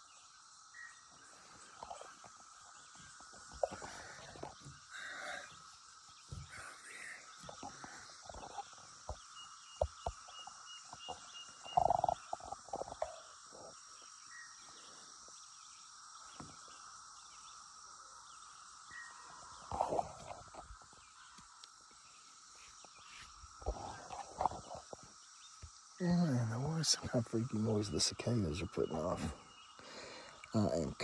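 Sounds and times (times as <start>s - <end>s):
cicadas buzzing: 0.0s - 31.0s.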